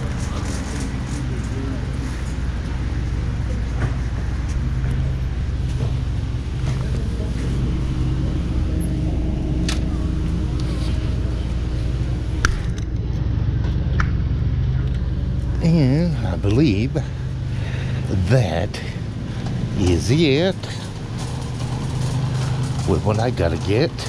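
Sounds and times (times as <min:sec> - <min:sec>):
store background rumble and hum: 0:00.0 - 0:24.0.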